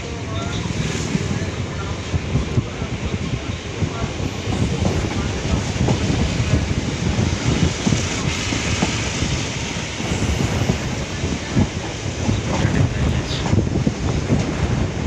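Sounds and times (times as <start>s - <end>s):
rushing air: 0.0s - 15.0s
train wheels rumbling on track: 0.0s - 15.0s
knocks of train wheels: 0.7s - 15.0s.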